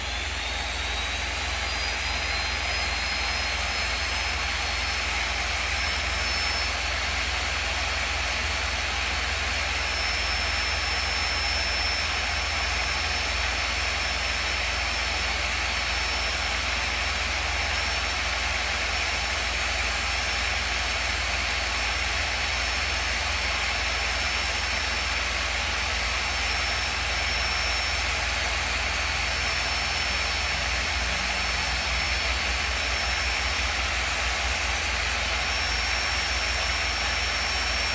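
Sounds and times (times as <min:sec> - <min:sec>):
electric drill whirring: 0:00.0 - 0:37.9.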